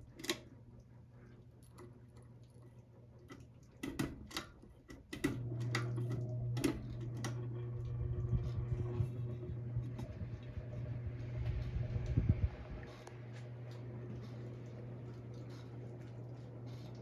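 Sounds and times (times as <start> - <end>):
ceiling fan motor humming: 3.2 - 17.0.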